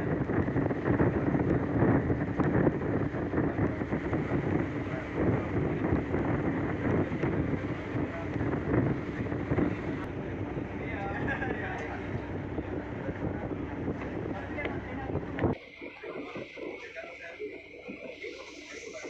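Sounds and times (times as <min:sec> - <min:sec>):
ship engine drone: 0:00.0 - 0:19.0
wind buffeting microphone: 0:00.0 - 0:19.0.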